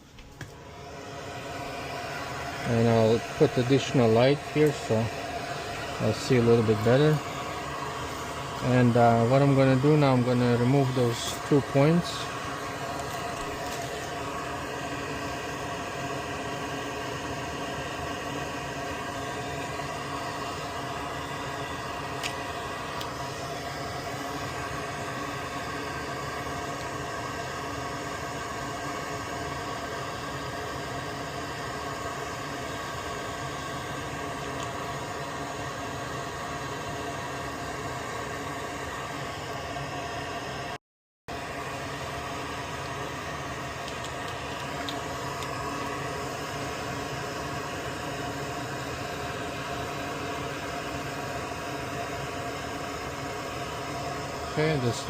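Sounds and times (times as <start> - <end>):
extractor fan running: 0.0 - 55.0.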